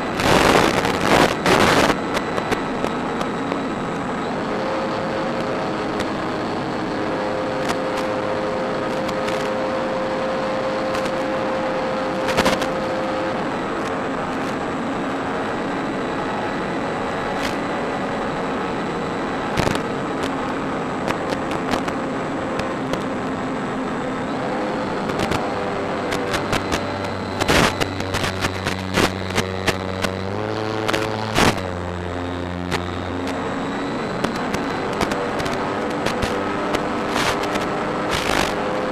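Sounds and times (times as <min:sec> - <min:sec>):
electric motor whine: 0:00.0 - 0:38.9
sharp crackles and clicks: 0:00.0 - 0:38.9.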